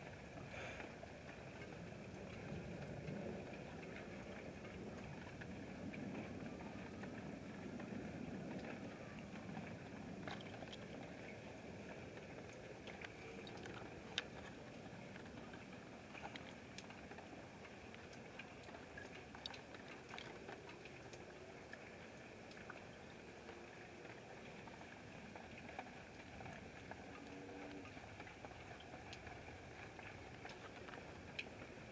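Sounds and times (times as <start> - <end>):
outdoor night noise: 0.0 - 31.9.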